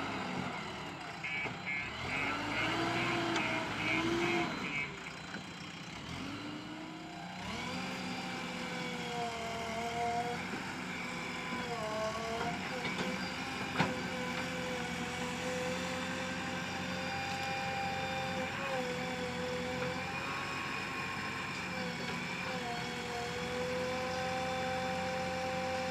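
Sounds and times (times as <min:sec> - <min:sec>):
backhoe diesel engine under load: 0:00.0 - 0:25.9.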